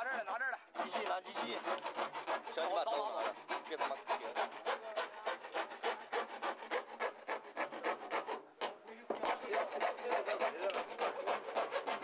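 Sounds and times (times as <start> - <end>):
saw cutting plastic: 0.0 - 12.0.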